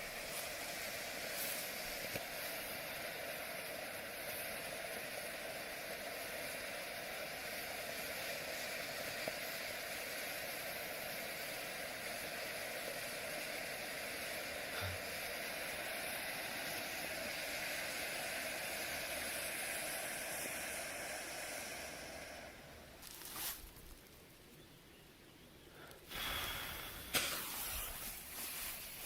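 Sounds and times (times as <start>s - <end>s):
burning firework hissing: 0.0s - 24.2s, 25.8s - 29.0s.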